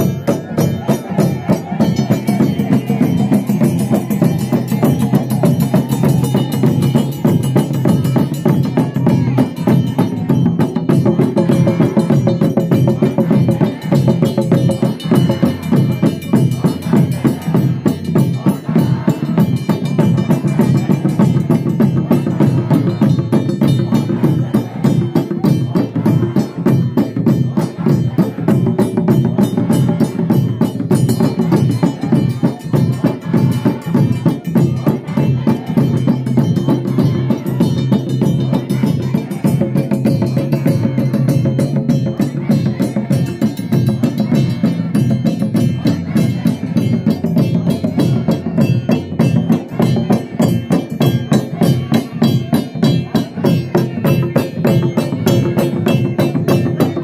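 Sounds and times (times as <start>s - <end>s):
frame drums beaten with sticks: 0.0s - 57.0s.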